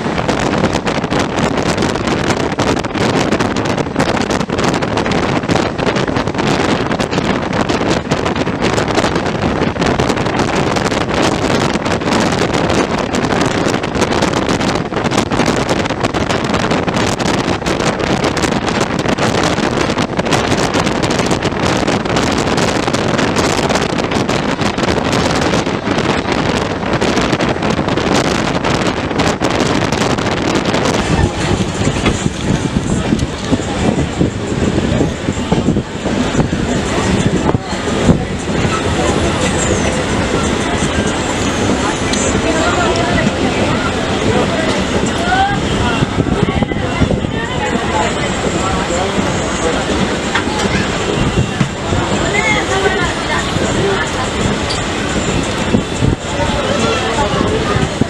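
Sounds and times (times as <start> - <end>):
moving train rushing: 0.0 - 58.0
wind buffeting microphone: 0.0 - 58.0.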